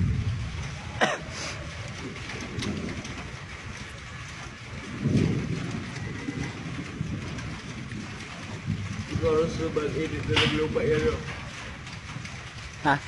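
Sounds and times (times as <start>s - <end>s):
low rumble: 0.0s - 12.8s
rain hissing: 0.0s - 13.0s.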